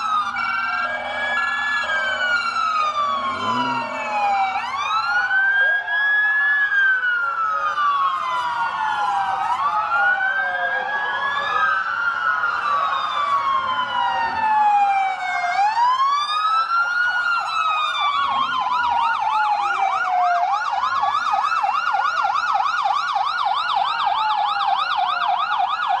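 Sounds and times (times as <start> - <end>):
siren yelp: 0.0 - 26.0
sirens wailing: 0.0 - 26.0.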